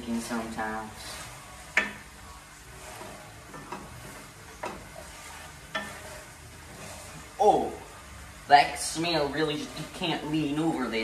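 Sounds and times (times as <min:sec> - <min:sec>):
wooden spoon scraping a pan: 0:00.0 - 0:07.9, 0:08.8 - 0:11.0.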